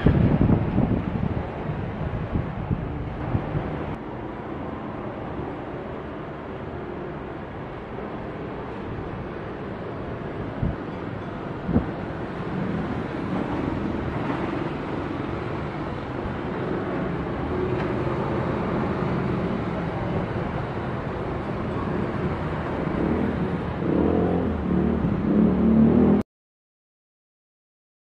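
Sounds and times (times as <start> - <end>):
propeller plane droning overhead: 0.0 - 26.2.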